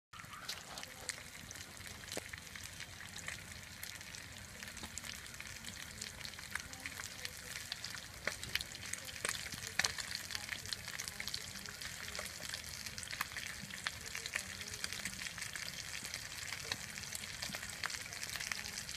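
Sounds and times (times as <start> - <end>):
fish frying in hot oil: 0.2 - 18.9.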